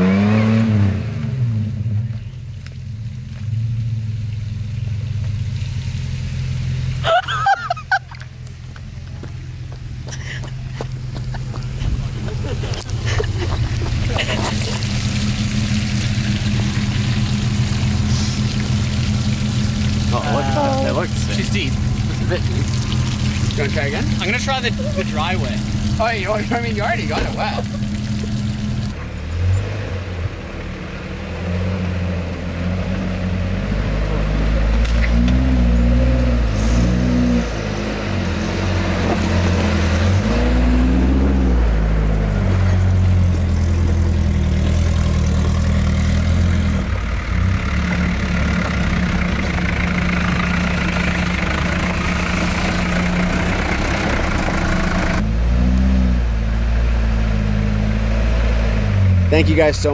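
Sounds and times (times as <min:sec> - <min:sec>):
truck engine revving: 0:00.0 - 0:02.1, 0:06.2 - 0:59.9.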